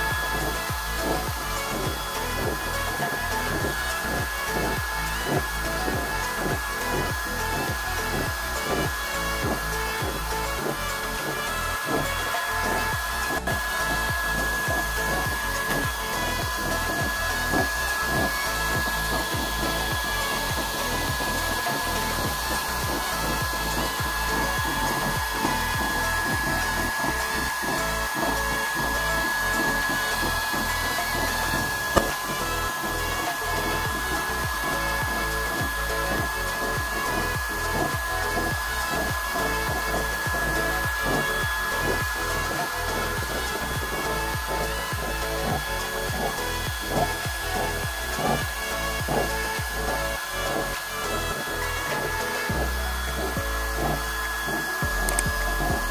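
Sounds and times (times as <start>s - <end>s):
electric blower whine: 0.0s - 55.9s.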